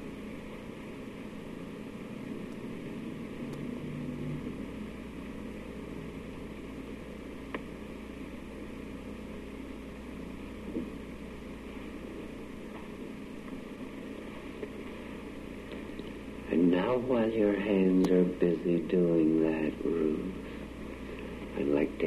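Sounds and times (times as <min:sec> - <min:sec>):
low hum: 0:00.0 - 0:22.0
recording hiss: 0:00.0 - 0:22.0.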